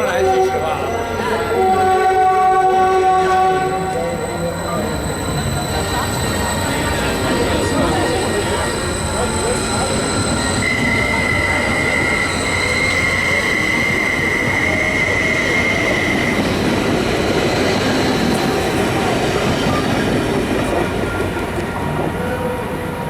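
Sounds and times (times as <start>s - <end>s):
train rumbling past: 0.0s - 23.0s
train wheels squealing: 3.7s - 23.0s.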